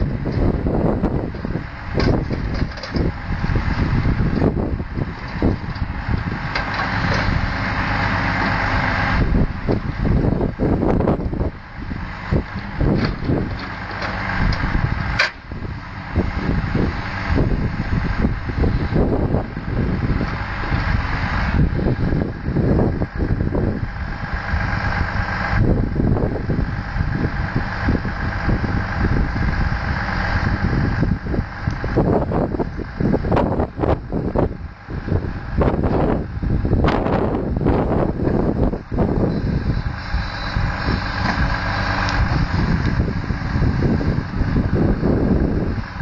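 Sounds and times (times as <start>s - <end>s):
diesel truck engine under load: 0.0s - 46.0s
hydraulic crane whine: 0.0s - 46.0s.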